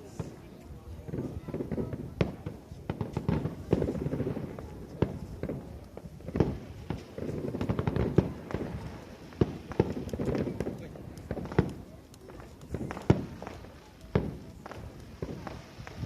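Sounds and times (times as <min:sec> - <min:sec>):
fireworks bangs and crackles: 0:00.0 - 0:16.0
low rumble of echoing explosions: 0:00.0 - 0:16.0.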